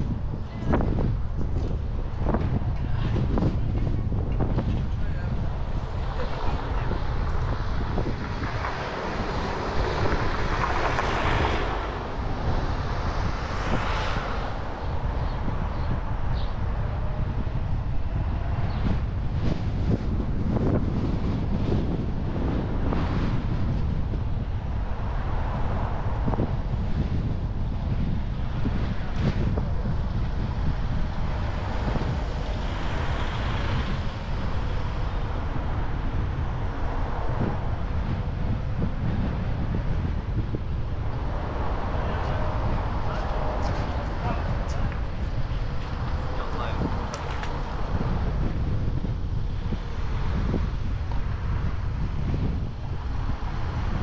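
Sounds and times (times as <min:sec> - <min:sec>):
car road noise: 0:00.0 - 0:54.0
wind buffeting microphone: 0:00.0 - 0:54.0.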